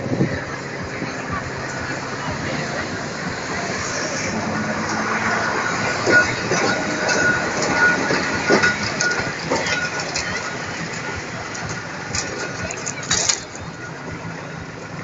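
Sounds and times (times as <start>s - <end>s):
tram wheels rumbling on track: 0.0s - 15.0s
wheels knocking over rail joints: 0.0s - 15.0s
thin high wheel squeal: 2.0s - 15.0s.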